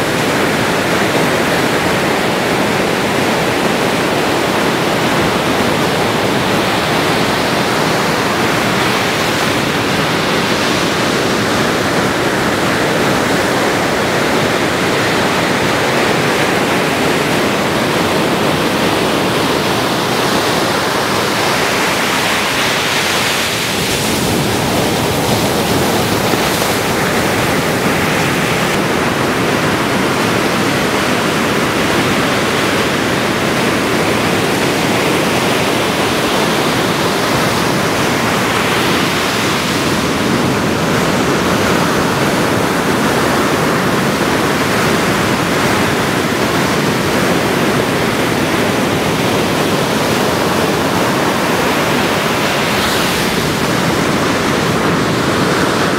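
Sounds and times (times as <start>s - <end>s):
waves breaking: 0.0s - 55.9s.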